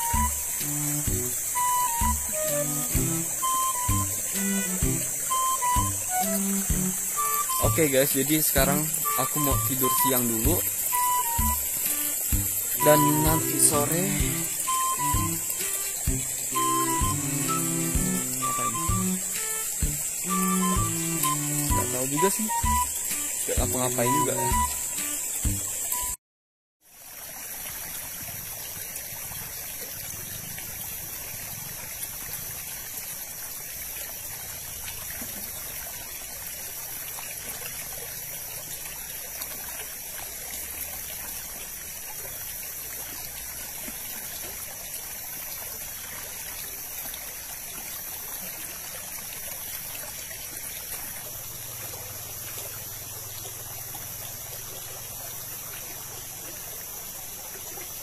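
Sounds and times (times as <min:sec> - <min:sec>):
stream water trickling: 0:00.0 - 0:26.2, 0:26.8 - 0:58.0.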